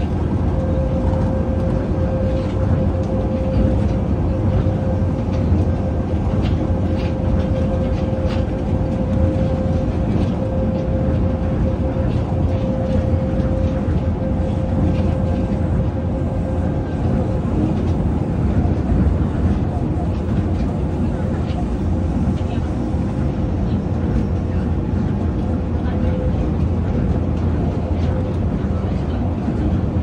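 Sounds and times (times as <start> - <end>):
steady whine: 0.0 - 30.0
train low rumble: 0.0 - 30.0.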